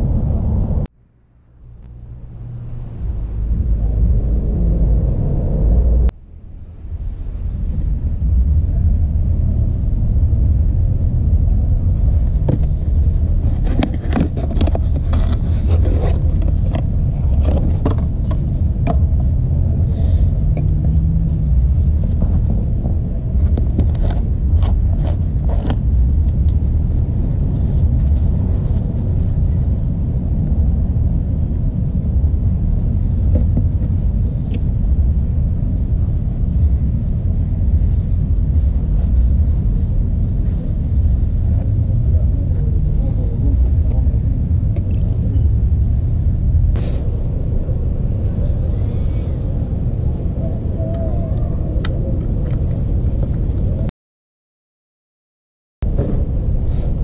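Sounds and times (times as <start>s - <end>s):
steady low rumble: 0.0s - 53.9s, 55.8s - 57.0s.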